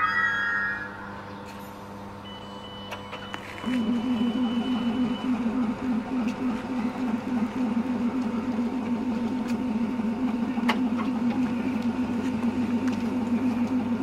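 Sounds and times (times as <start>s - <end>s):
train electrical hum: 0.0s - 14.0s.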